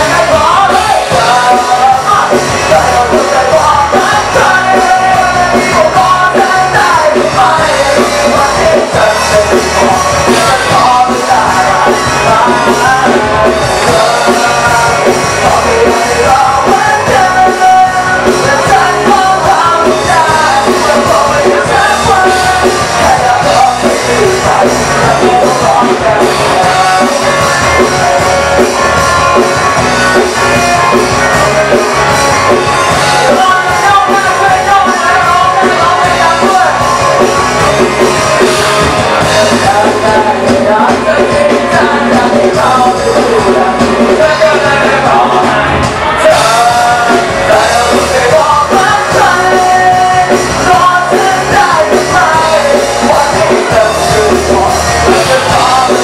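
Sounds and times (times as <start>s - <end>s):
electric bass: 0.0s - 56.0s
live rock band playing: 0.0s - 56.0s
person singing into microphone: 0.0s - 56.0s.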